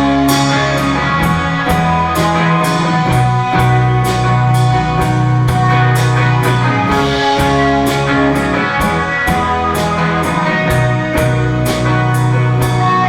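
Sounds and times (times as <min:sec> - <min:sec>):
bass guitar: 0:00.0 - 0:13.0
drums keeping a steady beat: 0:00.0 - 0:13.0
electric guitars: 0:00.0 - 0:13.0.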